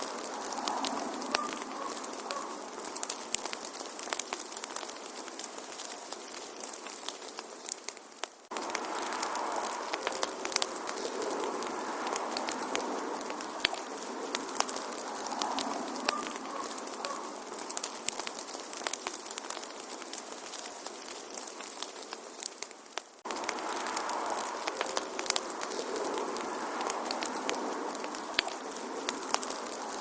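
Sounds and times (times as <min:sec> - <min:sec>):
steady hiss: 0:00.0 - 0:30.0
wood fire crackling and popping: 0:00.0 - 0:30.0.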